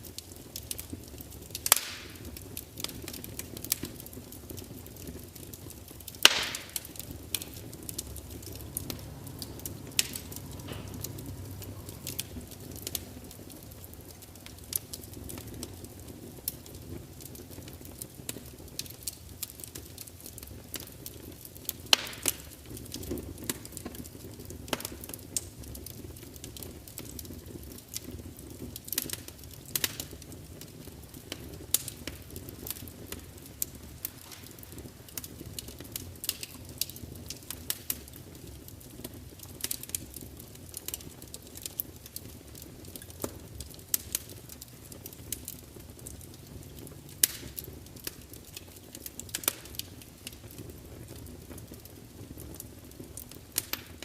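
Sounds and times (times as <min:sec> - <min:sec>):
fire rumbling: 0:00.0 - 0:54.0
logs crackling and popping: 0:00.0 - 0:54.0.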